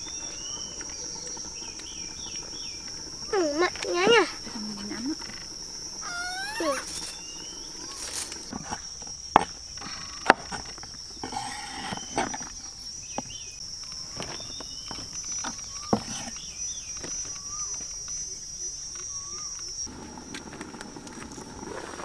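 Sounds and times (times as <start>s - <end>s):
insects droning high-pitched: 0.0s - 22.0s.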